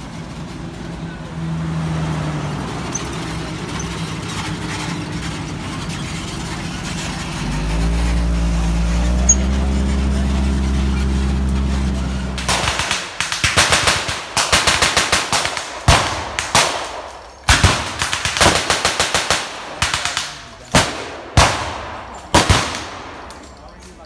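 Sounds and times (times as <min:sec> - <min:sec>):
tracked vehicle engine running: 0:00.0 - 0:24.0.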